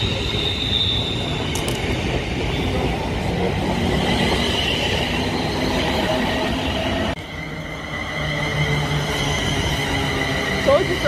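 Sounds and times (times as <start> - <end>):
high train whine: 0.0 - 11.0
train wheels rumbling on rail: 0.0 - 11.0.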